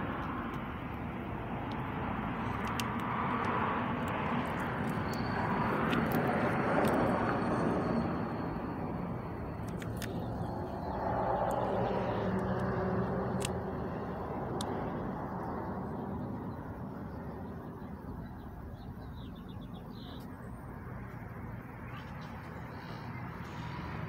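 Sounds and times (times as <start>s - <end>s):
vehicle passing by: 0.0s - 17.7s, 19.4s - 24.0s.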